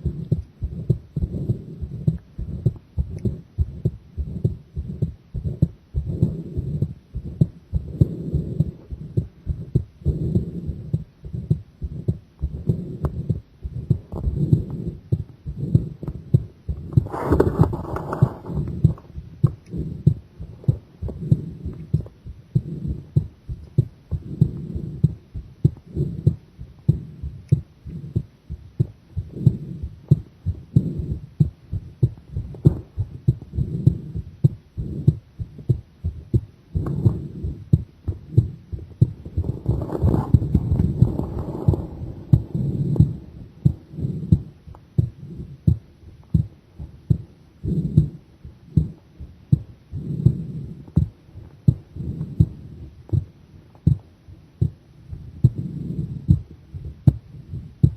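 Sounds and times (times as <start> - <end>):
heartbeat thumps: 0.0 - 57.9.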